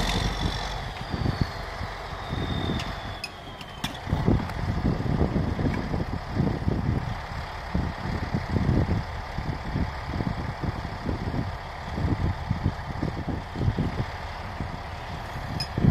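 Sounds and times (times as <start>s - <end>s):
bulldozer diesel engine droning: 0.0s - 15.9s.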